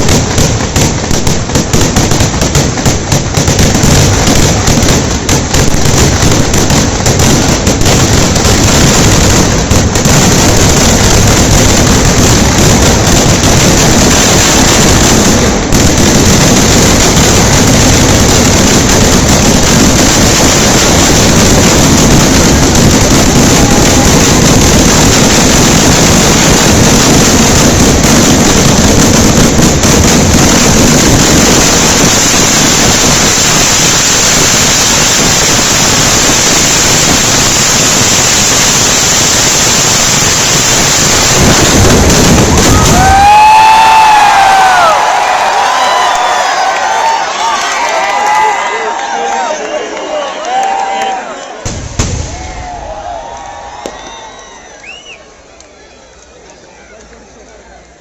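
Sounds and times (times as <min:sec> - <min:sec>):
fireworks explosions: 0:00.0 - 0:58.0.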